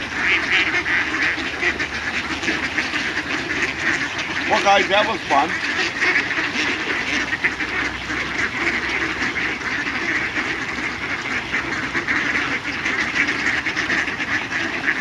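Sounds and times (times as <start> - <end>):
flock of ducks quacking: 0.0 - 15.0.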